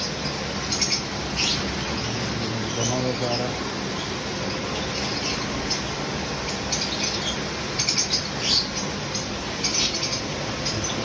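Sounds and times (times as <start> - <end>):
birds chirping: 0.0 - 11.0
pressure washer spraying water: 0.0 - 11.0.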